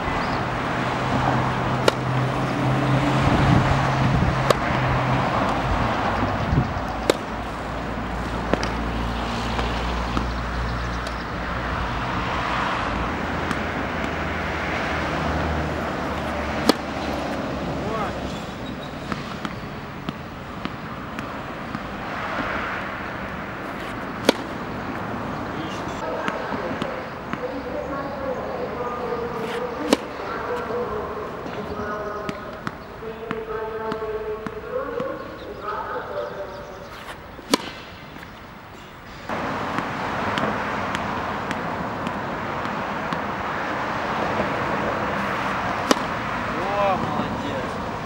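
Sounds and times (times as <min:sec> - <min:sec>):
outdoor background noise: 0:00.0 - 0:48.0
road traffic: 0:00.0 - 0:48.0
racket hitting tennis ball: 0:01.0 - 0:10.4, 0:11.0 - 0:27.7, 0:28.8 - 0:35.4, 0:36.8 - 0:48.0.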